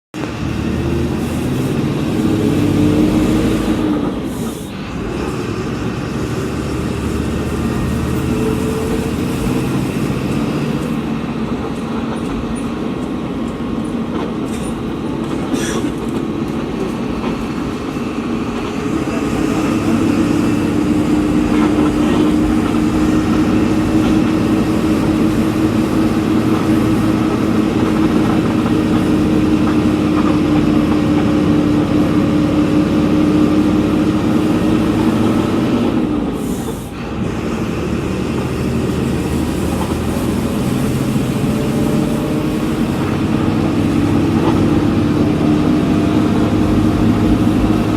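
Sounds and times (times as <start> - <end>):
bus diesel engine running: 0.0 - 47.9.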